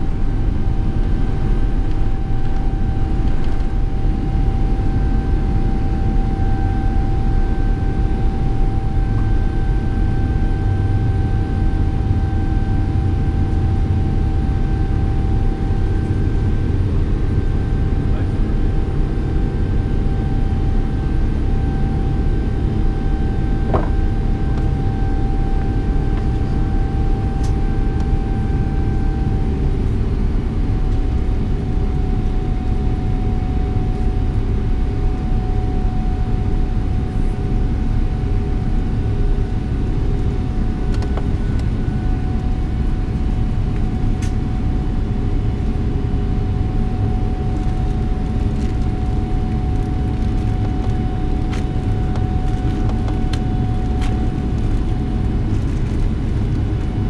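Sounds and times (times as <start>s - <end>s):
jet engine and airflow rumble: 0.0s - 57.0s.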